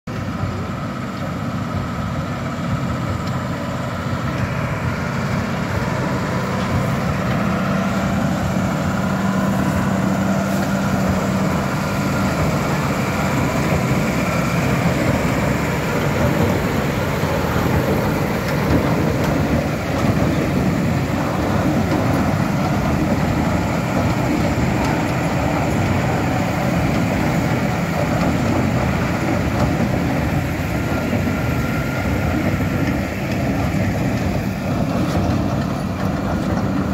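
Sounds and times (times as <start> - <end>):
baler machinery running: 0.1 - 36.9.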